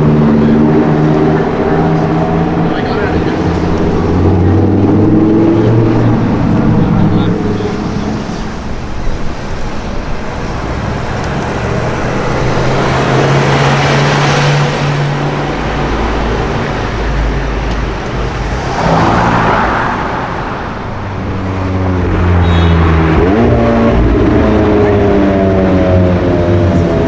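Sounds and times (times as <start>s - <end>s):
car engines and tyre noise: 0.0s - 27.0s
engine accelerating: 0.0s - 27.0s.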